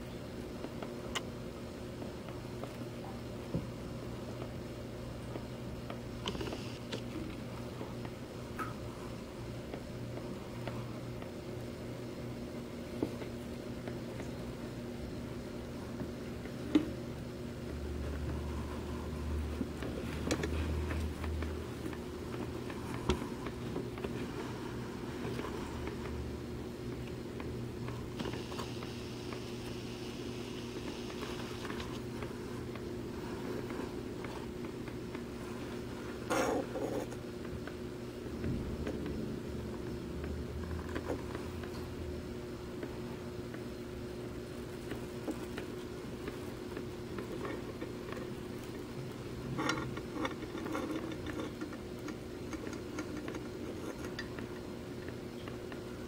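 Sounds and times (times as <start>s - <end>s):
aquarium filter hum: 0.0s - 56.0s.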